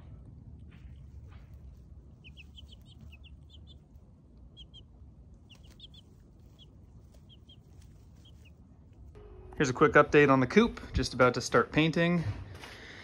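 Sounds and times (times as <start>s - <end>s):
faint low rumble: 0.0s - 13.0s
chicks peeping: 0.6s - 11.1s.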